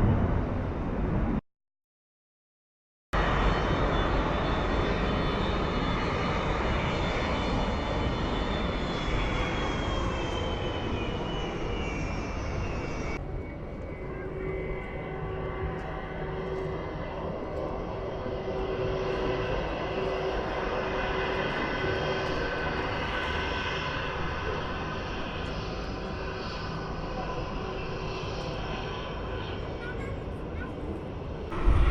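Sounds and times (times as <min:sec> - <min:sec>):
jet engine whine falling in pitch: 0:03.2 - 0:31.9
steady jet engine tones: 0:03.2 - 0:31.9.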